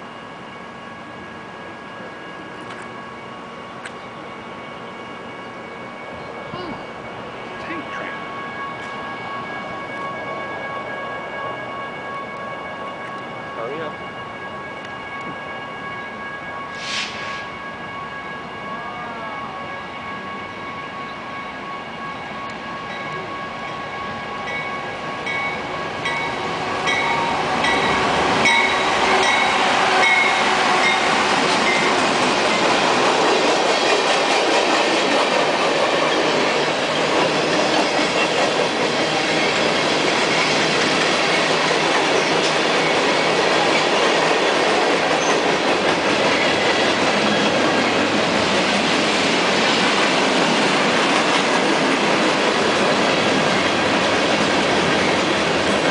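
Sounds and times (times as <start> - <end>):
freight train passing: 0.0 - 55.9.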